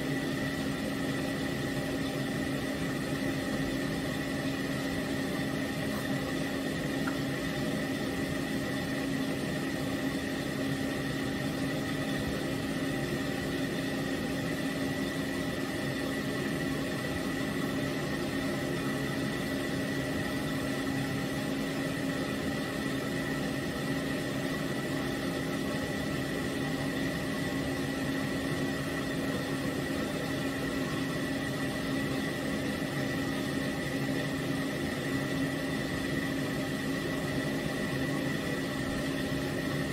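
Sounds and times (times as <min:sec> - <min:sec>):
dryer motor hum and whine: 0:00.0 - 0:39.9.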